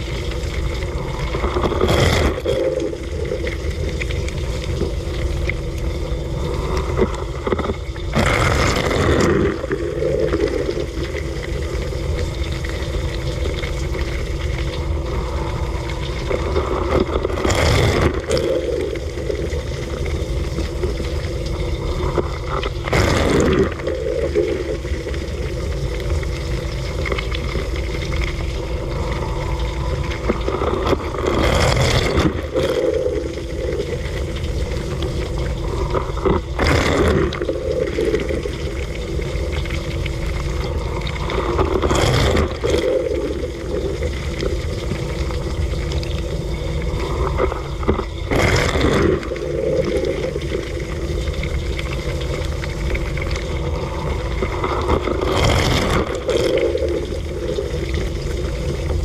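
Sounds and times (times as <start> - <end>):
water spraying and splashing: 0.0 - 59.0.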